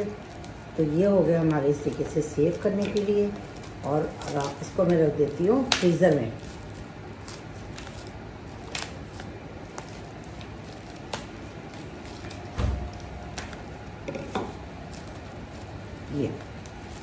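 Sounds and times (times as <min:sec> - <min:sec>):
cling film crinkling: 0:00.0 - 0:17.0.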